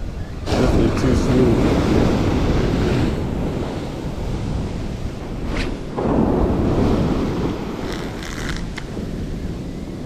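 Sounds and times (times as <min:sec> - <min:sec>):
ocean surf washing up: 0:00.0 - 0:10.0
wind rumble on microphone: 0:00.0 - 0:10.0.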